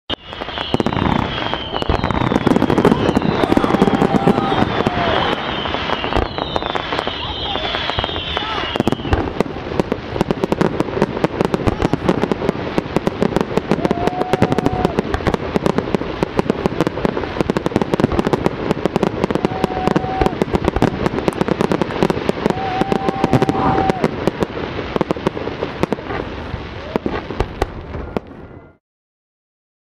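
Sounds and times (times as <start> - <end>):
distant fireworks bangs: 0.1 - 28.7.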